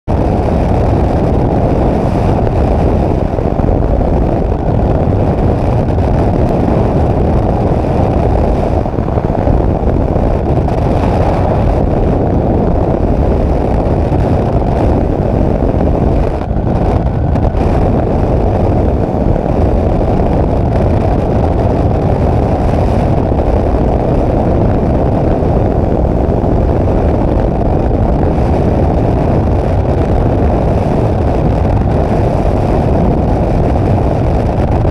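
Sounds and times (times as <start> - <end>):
engine drone: 0.0 - 34.9
wind rushing on microphone: 0.0 - 34.9.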